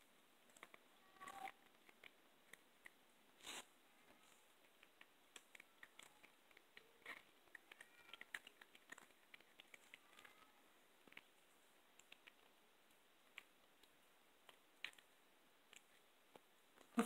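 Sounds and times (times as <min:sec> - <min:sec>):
cat gnawing bone: 0:00.4 - 0:16.8.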